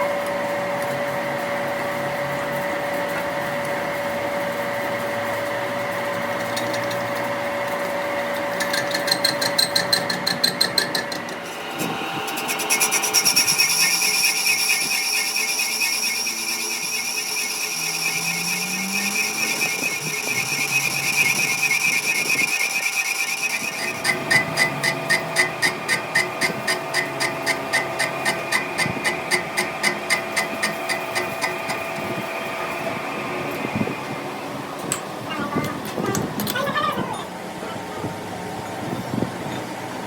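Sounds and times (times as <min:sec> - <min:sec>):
metallic whine with ringing tones: 0:00.0 - 0:35.4.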